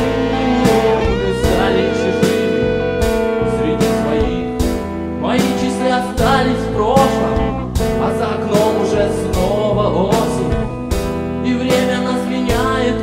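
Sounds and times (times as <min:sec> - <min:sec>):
song with steady beat: 0:00.0 - 0:13.0.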